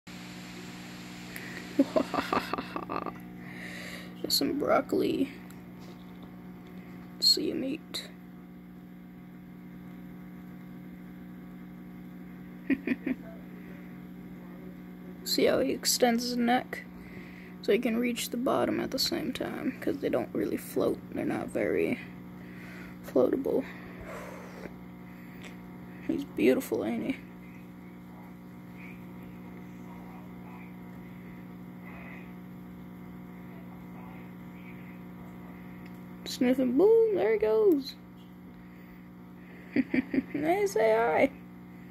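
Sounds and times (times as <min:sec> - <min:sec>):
aquarium filter motor hum: 0:00.1 - 0:41.9.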